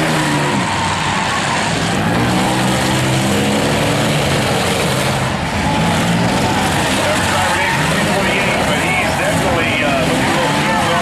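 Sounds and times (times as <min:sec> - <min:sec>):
car engines running loudly: 0:00.0 - 0:11.0.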